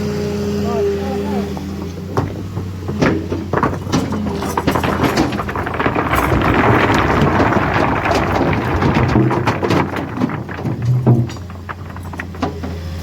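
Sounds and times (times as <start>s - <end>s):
heavy diesel machinery running: 0.0s - 13.0s
rattling clatter of clicks: 1.6s - 13.0s.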